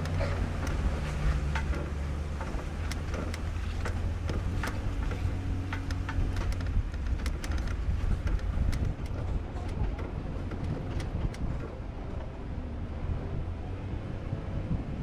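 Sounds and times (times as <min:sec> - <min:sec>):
tyres crunching gravel and stones: 0:00.0 - 0:12.3
vehicle engine running low: 0:00.0 - 0:15.0.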